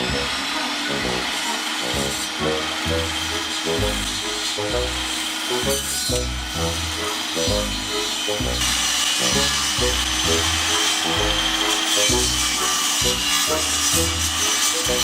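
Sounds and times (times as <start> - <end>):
background music: 0.0 - 15.0
hand saw cutting wood: 0.0 - 15.0.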